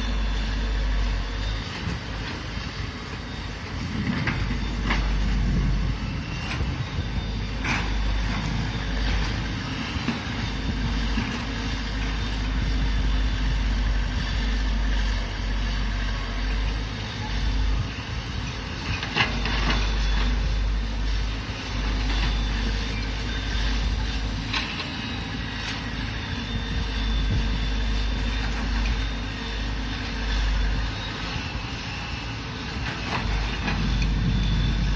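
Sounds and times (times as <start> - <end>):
excavator engine rumbling: 0.0 - 34.9.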